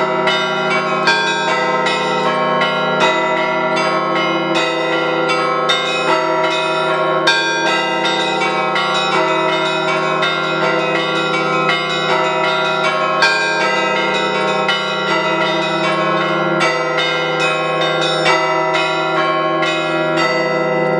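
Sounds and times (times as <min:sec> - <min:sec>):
hum of large bells: 0:00.0 - 0:20.9.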